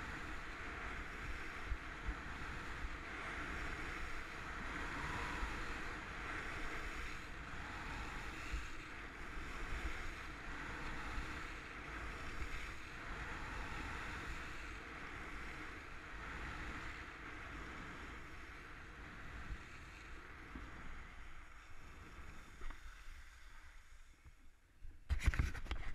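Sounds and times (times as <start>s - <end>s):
wind rushing over camera: 0.0s - 23.1s.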